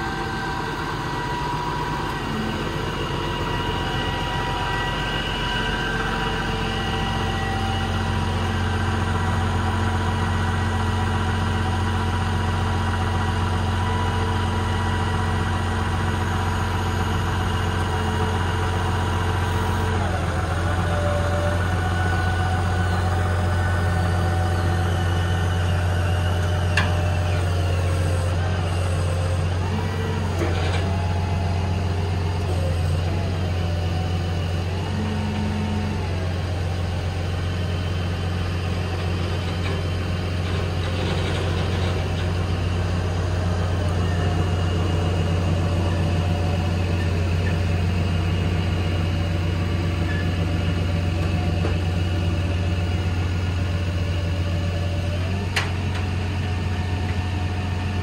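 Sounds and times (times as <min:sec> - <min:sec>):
diesel engine running: 0:00.0 - 0:58.0
hydraulic whine: 0:00.0 - 0:58.0.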